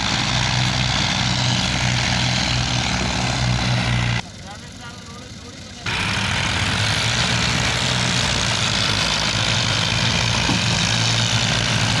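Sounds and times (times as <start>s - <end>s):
tractor diesel engine hum: 0.0s - 12.0s.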